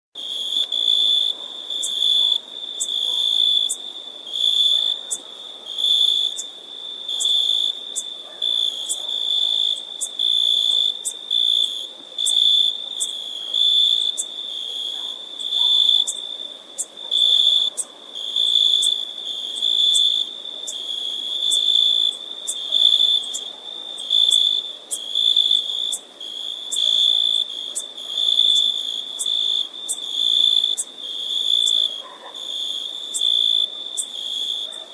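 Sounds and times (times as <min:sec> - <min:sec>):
insect chirping trill: 0:00.2 - 0:34.9.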